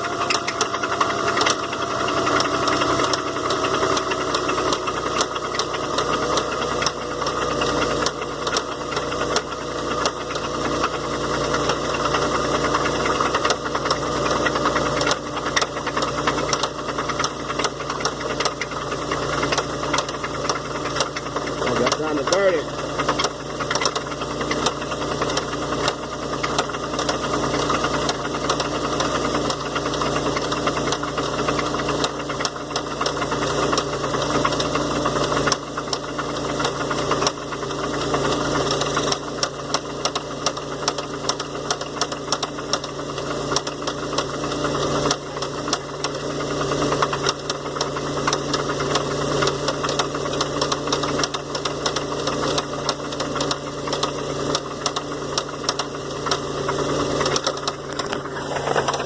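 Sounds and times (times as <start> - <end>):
car engine idling: 0.0 - 59.0
rapid engine knock: 0.0 - 59.0.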